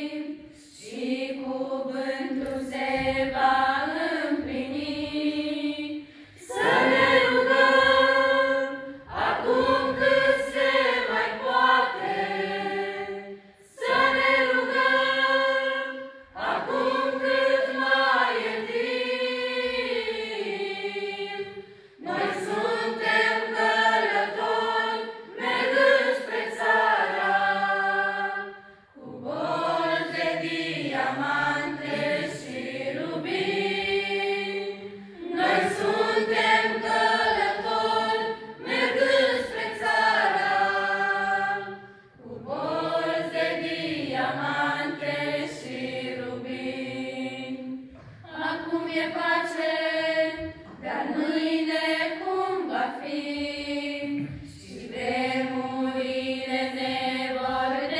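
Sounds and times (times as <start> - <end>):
choir singing a cappella: 0.0 - 57.9.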